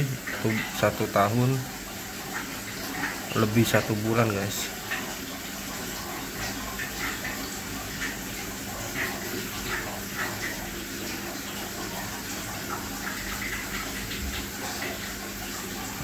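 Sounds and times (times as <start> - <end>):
aquarium water trickling: 0.0 - 16.0
faint pump hum: 0.0 - 16.0.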